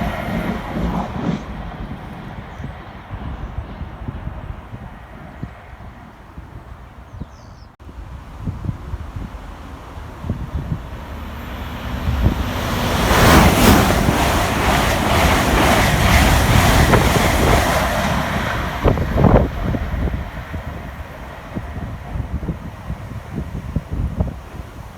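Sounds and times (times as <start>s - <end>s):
train rushing past: 0.0s - 7.0s, 8.0s - 24.9s
wind buffeting microphone: 0.0s - 24.9s.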